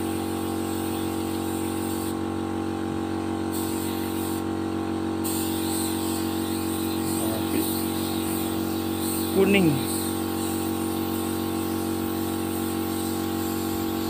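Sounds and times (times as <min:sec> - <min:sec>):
air compressor running: 0:00.0 - 0:14.0
paint spray gun hissing: 0:00.0 - 0:14.0.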